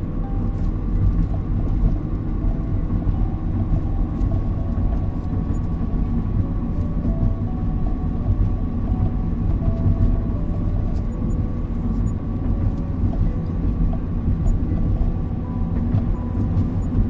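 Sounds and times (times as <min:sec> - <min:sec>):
car driving rumble: 0:00.0 - 0:17.0
soft melody of held notes: 0:00.0 - 0:17.0.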